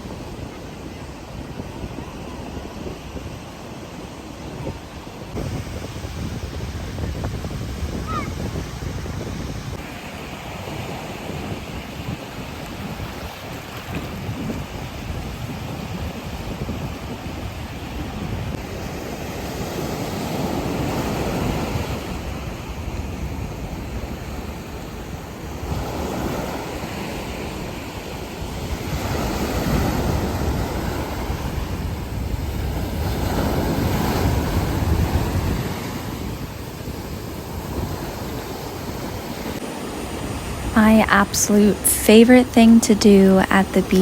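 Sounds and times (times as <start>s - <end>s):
ocean surf breaking: 0.0s - 44.0s
wind on microphone: 0.0s - 44.0s.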